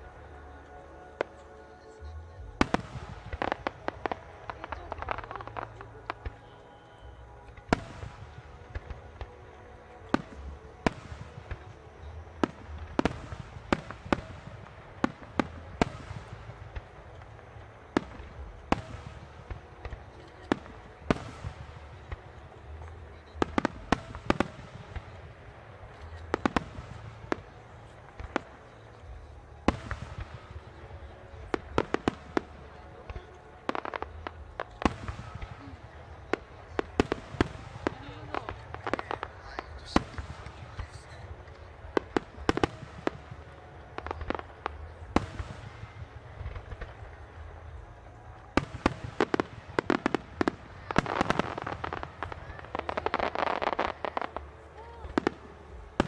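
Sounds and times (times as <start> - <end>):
firework bangs and crackles: 0.0 - 56.0.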